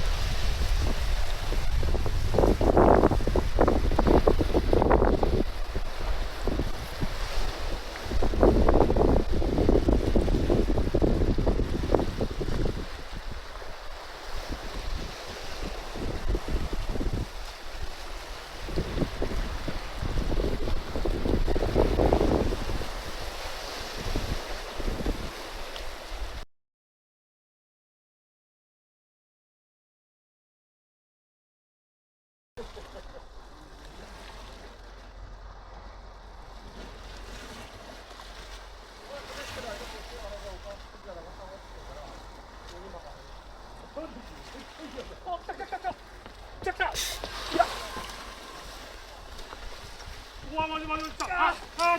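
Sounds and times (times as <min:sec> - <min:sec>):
sea surf: 0:00.0 - 0:26.4, 0:32.6 - 0:51.9
wind buffeting microphone: 0:00.0 - 0:26.4, 0:33.2 - 0:51.9.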